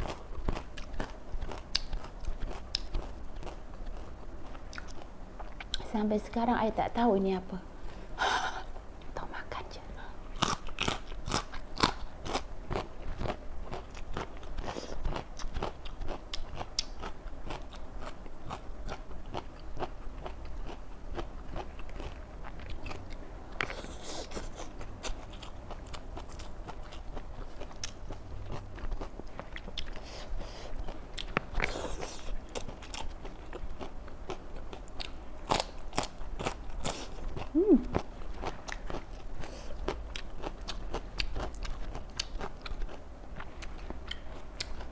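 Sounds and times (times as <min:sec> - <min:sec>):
chewing crunchy raw vegetables: 0:00.0 - 0:05.8, 0:10.2 - 0:44.9.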